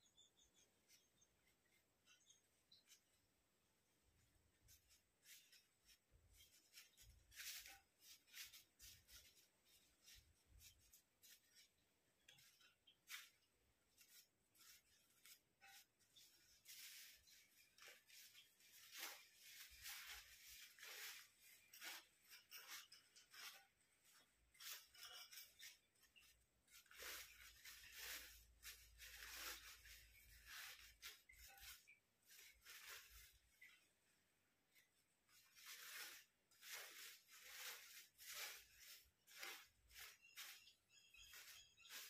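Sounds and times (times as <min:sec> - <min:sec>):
paper rustling and crinkling: 0:04.6 - 0:42.0.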